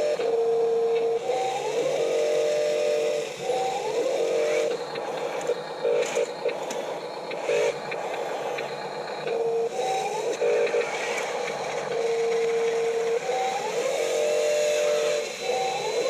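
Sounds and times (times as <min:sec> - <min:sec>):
small electric motors whining: 0:00.0 - 0:16.0.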